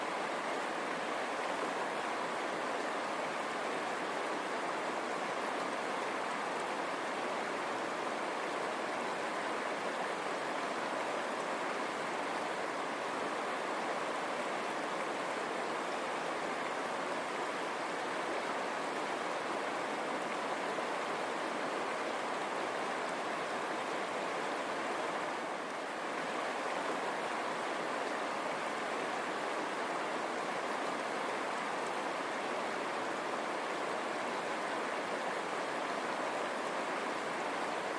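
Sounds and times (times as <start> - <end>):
river water over stones: 0.0 - 37.9.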